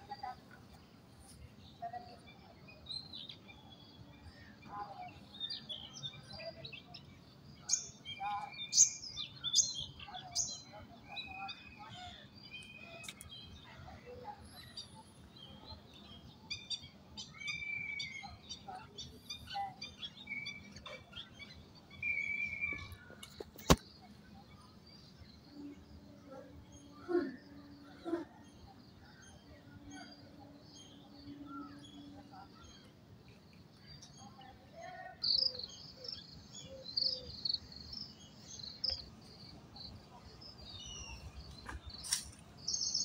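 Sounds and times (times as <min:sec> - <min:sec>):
faint low background noise: 0:00.0 - 0:43.0
birds chirping and calling: 0:03.0 - 0:43.0.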